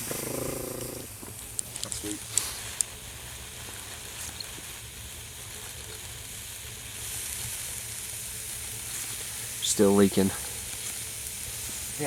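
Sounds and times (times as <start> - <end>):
wood stove sizzling hiss: 0.0 - 12.0.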